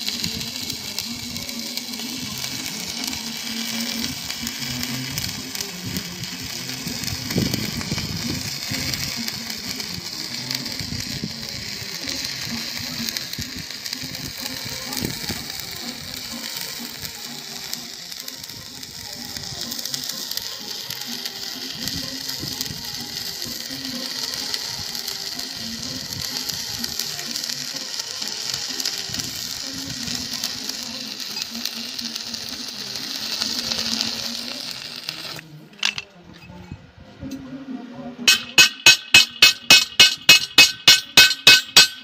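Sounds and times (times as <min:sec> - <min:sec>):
welding arc crackling and buzzing: 0:00.0 - 0:36.0, 0:38.3 - 0:42.0.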